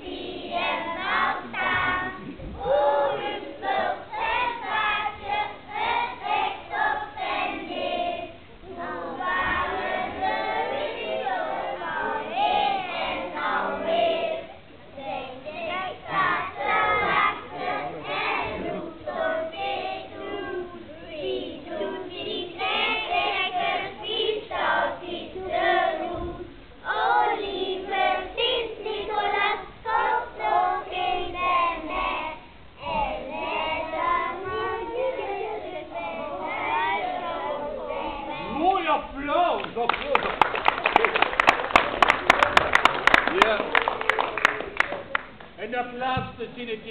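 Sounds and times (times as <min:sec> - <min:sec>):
children singing in unison: 0:00.0 - 0:38.6.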